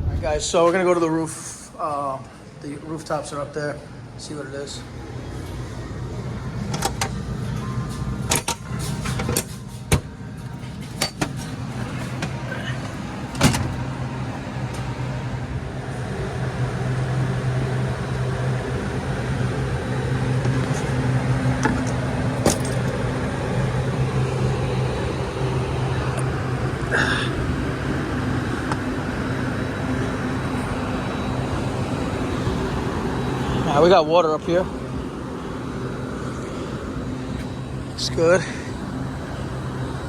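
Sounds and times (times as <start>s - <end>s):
air conditioning units humming: 0.0s - 40.0s.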